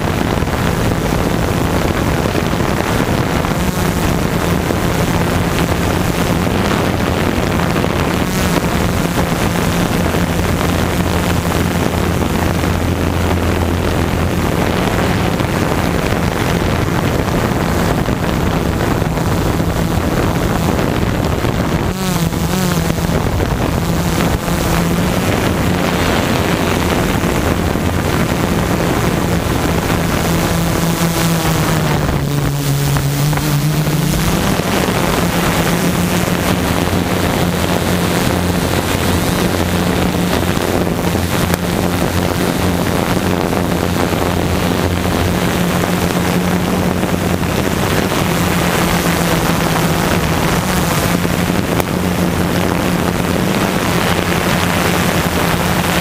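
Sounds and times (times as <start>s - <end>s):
drone motors humming: 0.0s - 56.0s
wind noise on microphone: 0.0s - 56.0s.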